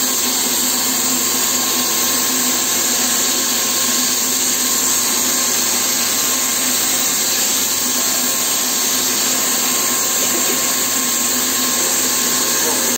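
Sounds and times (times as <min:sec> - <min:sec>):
paint sprayer hissing with faint whine: 0:00.0 - 0:12.9.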